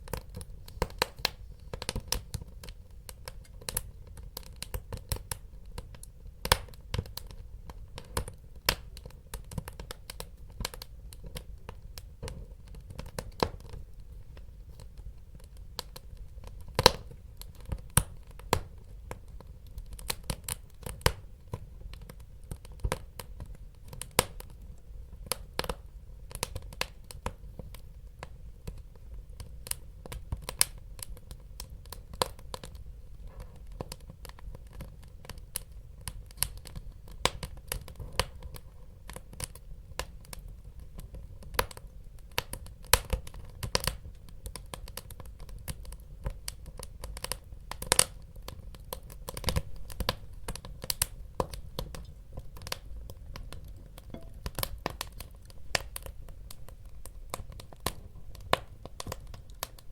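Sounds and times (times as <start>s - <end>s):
low rumble of fire: 0.0s - 59.9s
wood fire crackling: 0.0s - 59.9s.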